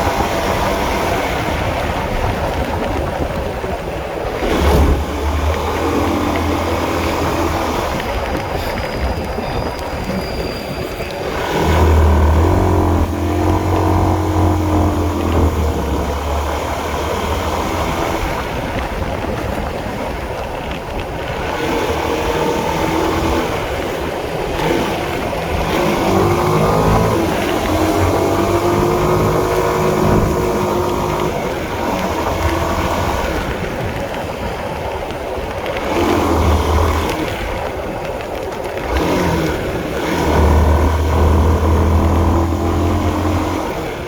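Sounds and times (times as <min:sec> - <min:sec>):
motorcycle engine running: 0:00.0 - 0:44.0
steady rush of noise: 0:00.0 - 0:44.0.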